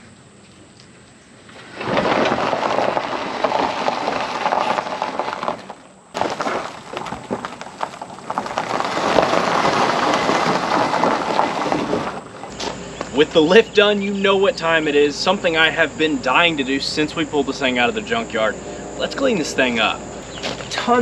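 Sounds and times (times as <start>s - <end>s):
gravel crunching under tyres: 0.0s - 21.0s.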